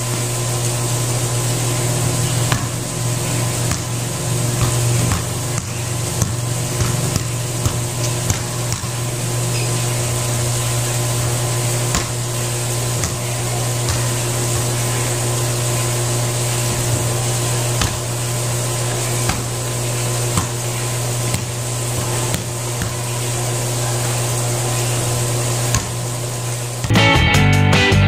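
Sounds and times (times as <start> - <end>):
mechanical hum with low drone: 0.0 - 28.0.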